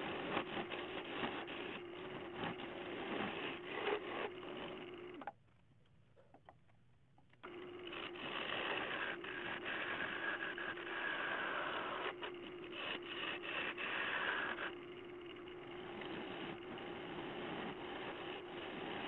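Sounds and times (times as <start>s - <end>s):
gouge scraping wood: 0.0s - 5.0s, 7.5s - 19.0s
wood lathe humming: 0.0s - 5.4s, 7.3s - 19.0s.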